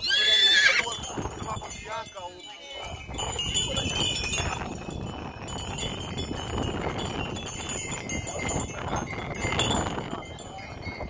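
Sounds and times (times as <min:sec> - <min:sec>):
harness bells jingling: 0:00.0 - 0:11.0.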